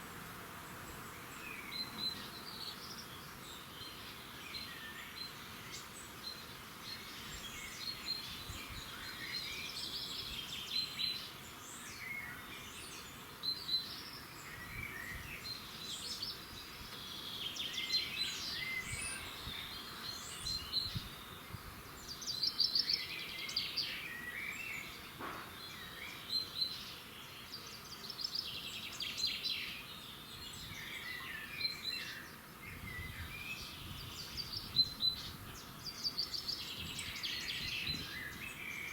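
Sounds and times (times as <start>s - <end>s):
low outdoor background noise: 0.0s - 38.9s
songbirds singing and chirping: 0.7s - 38.9s.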